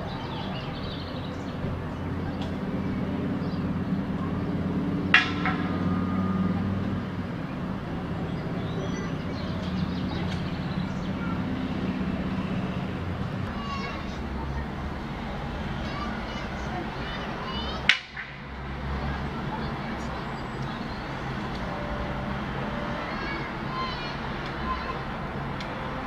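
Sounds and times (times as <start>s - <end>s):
low engine hum: 0.0s - 17.8s, 18.4s - 26.0s
distant crowd voices: 0.0s - 26.0s.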